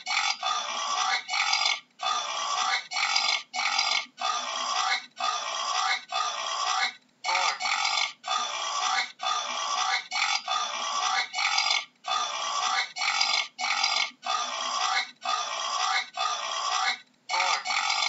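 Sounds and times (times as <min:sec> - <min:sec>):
boar grunting: 0:00.0 - 0:18.0.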